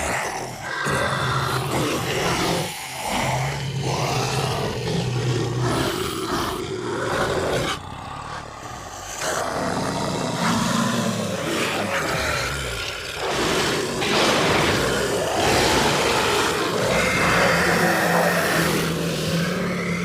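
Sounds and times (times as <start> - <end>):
monster roars and growls: 0.0 - 20.0.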